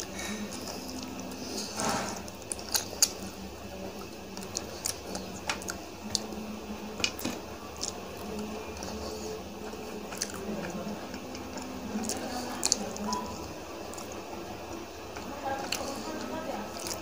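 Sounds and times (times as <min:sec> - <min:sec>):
wet chewing clicks and smacks: 0:02.2 - 0:14.4, 0:15.0 - 0:17.0.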